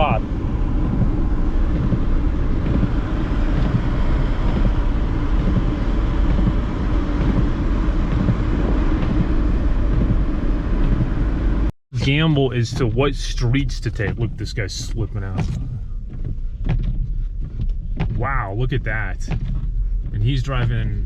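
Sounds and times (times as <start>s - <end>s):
car driving through deep snow: 0.0s - 21.0s.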